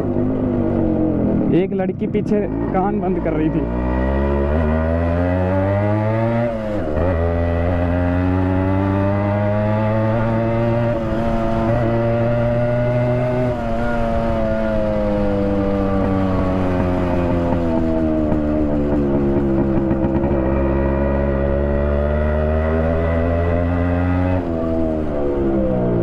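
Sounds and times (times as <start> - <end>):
loud two-stroke motorcycle engine: 0.0 - 26.0.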